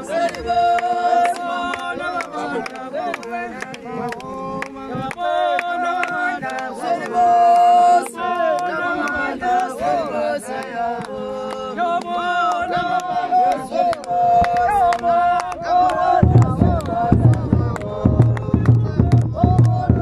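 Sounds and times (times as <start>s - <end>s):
group chanting: 0.0s - 20.0s.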